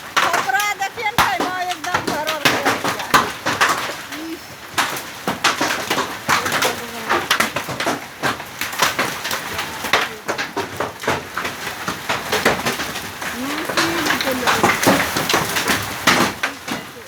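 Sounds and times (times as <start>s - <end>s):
hailstones striking hard surfaces: 0.0s - 17.0s.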